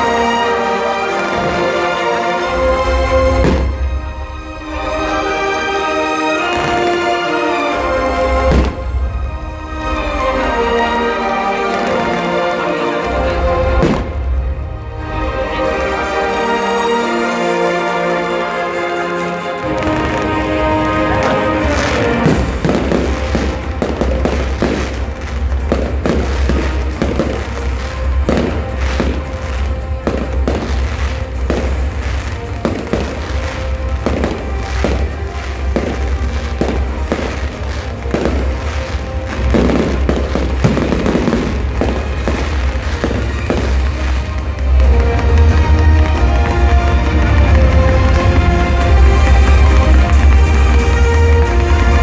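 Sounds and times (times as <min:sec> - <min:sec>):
fireworks bangs and crackles: 0:00.0 - 0:16.3, 0:19.4 - 0:52.0
music playing: 0:00.0 - 0:52.0.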